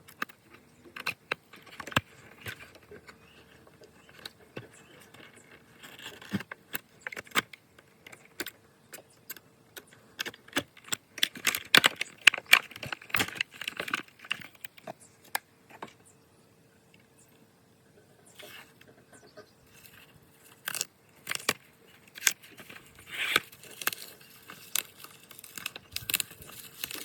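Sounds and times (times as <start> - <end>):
plastic toys clicking and rattling: 0.0 - 15.9, 19.7 - 27.0
faint steady hum: 0.0 - 27.0.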